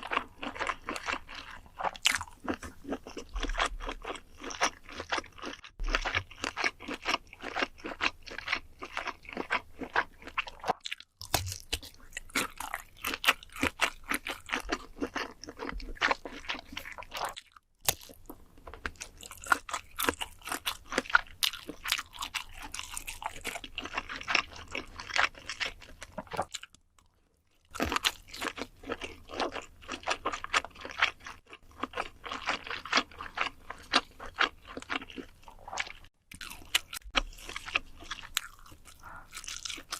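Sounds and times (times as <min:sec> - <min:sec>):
crunchy food bites: 0:00.0 - 0:39.9
wet chewing: 0:00.0 - 0:39.9.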